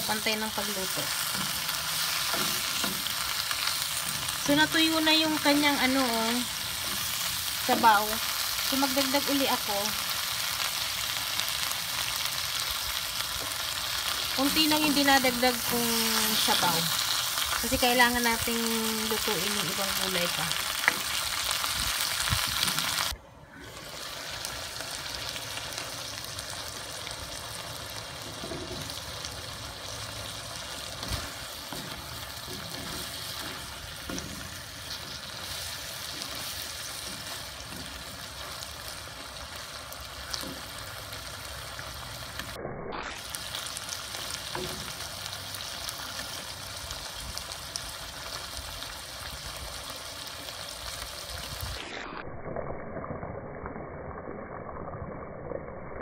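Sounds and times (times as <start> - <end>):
food sizzling in a wok: 0.0 - 52.1.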